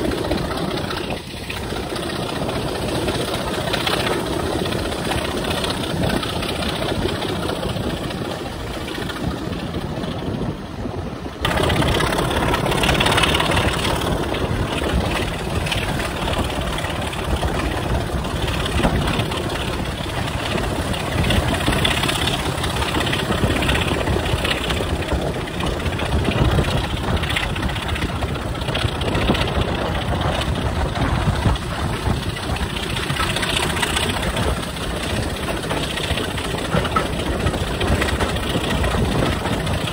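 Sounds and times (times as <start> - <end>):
diesel locomotive engine running: 0.0 - 39.9
rushing wind: 0.0 - 39.9
train wheels on rails: 0.0 - 39.9.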